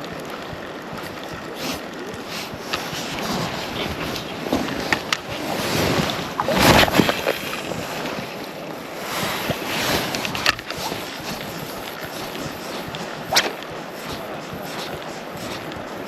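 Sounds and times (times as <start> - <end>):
moving water: 0.0 - 16.0
wind: 0.0 - 16.0.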